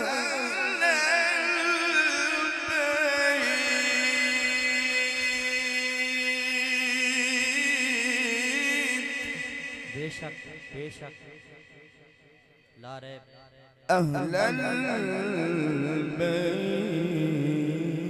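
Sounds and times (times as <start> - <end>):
man chanting through a microphone: 0.0 - 11.9, 12.8 - 18.0.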